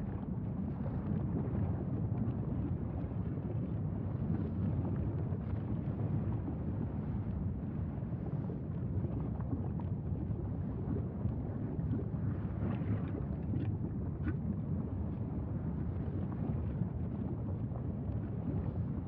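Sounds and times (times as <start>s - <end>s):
faint crackles: 0.0s - 19.0s.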